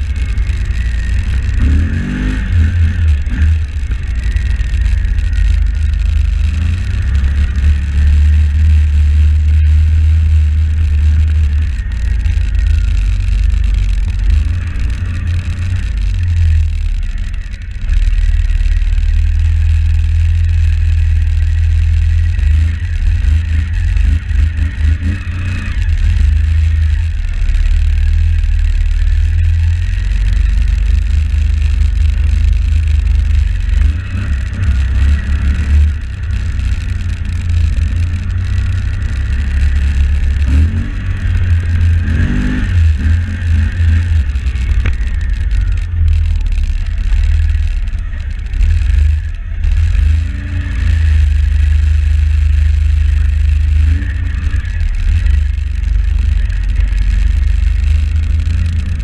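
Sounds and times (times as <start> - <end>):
atv engine rumbling: 0.0 - 59.0.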